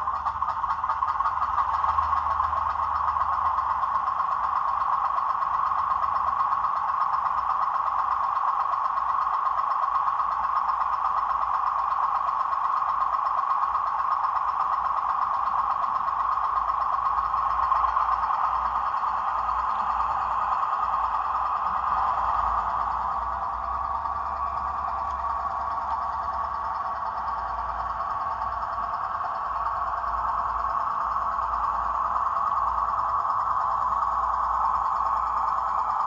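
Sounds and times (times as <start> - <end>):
model train diesel engine sound: 0.0 - 36.0.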